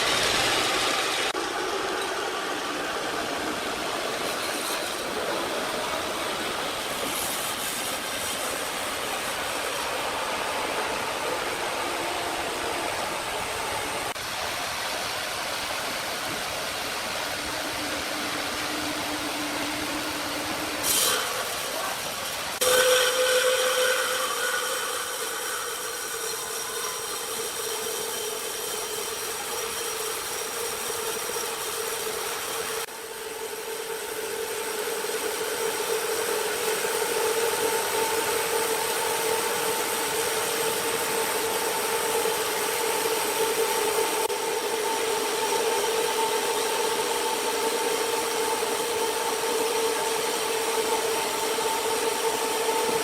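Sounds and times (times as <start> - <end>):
sawmill saw cutting wood: 0.0 - 53.0.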